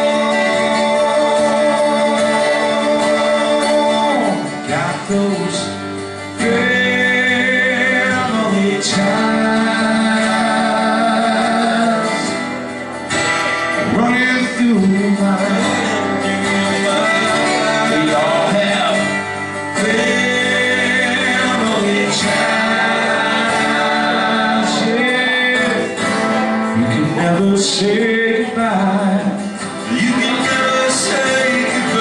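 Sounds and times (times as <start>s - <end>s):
acoustic guitars: 0.0s - 32.0s.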